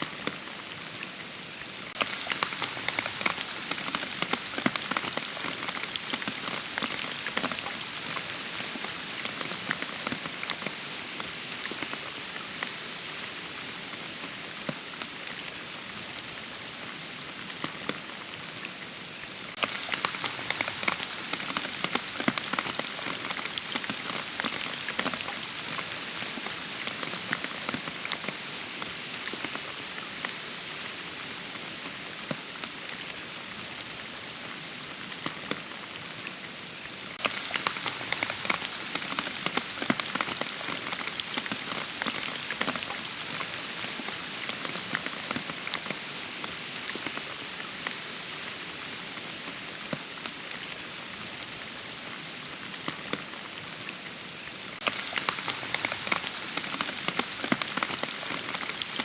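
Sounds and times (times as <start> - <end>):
steady rain with close drops: 0.0 - 59.0.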